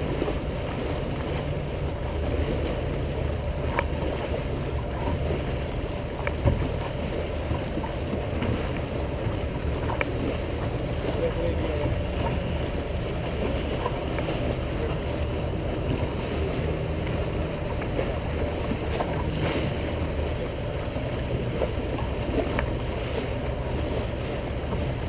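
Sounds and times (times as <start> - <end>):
boat motor running: 0.0 - 25.0
water splashing along hull: 0.0 - 25.0.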